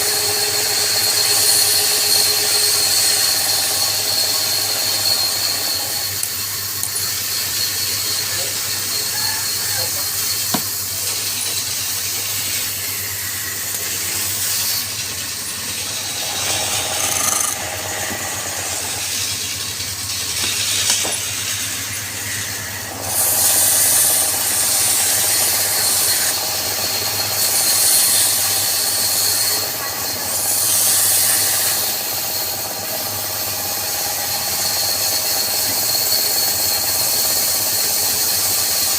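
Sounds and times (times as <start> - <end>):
turning tool cutting wood: 0.0 - 38.9
wood lathe motor hum: 0.0 - 38.9.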